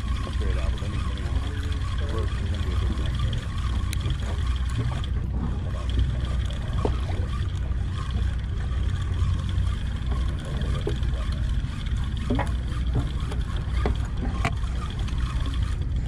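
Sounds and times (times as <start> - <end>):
boat engine idling: 0.0 - 16.0
steady hum: 0.0 - 16.0.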